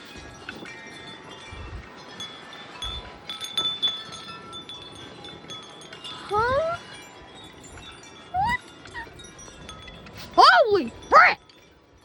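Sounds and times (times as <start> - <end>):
wind gusts buffeting microphone: 0.0 - 11.4
metal wind chime ringing: 0.0 - 12.0.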